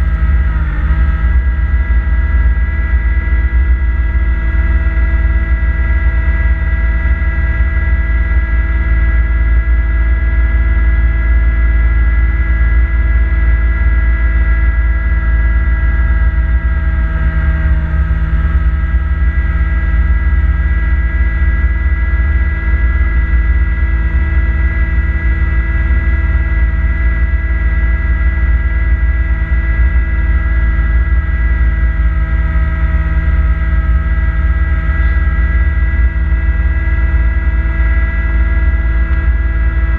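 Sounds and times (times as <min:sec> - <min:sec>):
diesel engine deep rumble: 0:00.0 - 0:39.9
steady high whine: 0:00.0 - 0:39.9.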